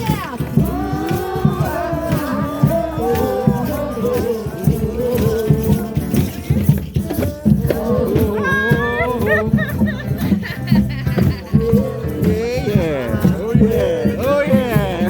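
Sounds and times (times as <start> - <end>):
drums playing rhythm: 0.0 - 15.0
group of voices singing: 0.0 - 15.0.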